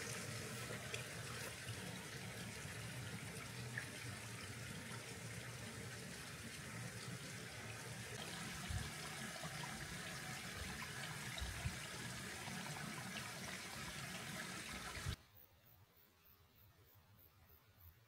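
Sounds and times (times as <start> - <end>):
stream water rushing: 0.0 - 15.2.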